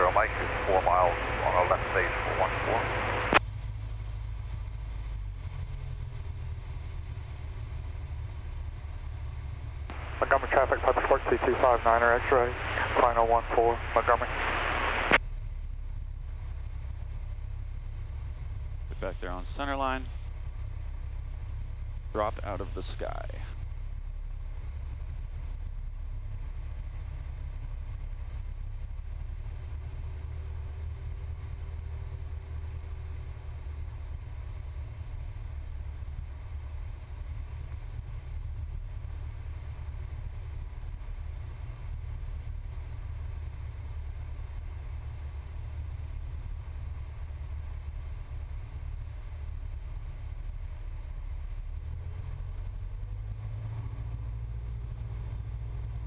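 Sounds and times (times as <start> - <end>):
cockpit airflow noise: 0.0 - 56.0
piston aircraft engine drone: 0.0 - 56.0.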